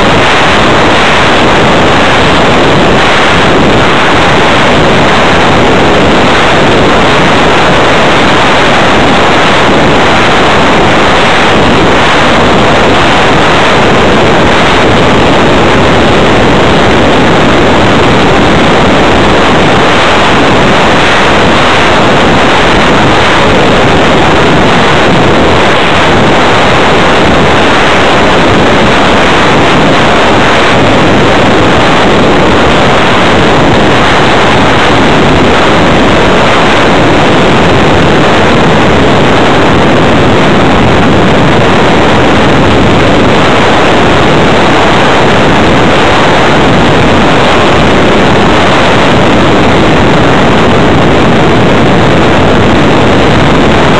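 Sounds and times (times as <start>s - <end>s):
loud rush of air: 0.0s - 53.9s.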